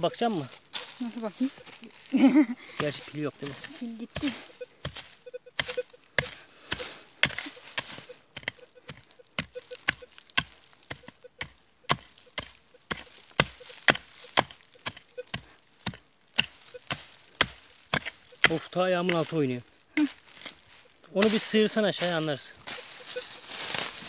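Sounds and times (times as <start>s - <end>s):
pick striking soil and stones: 0.0s - 24.0s.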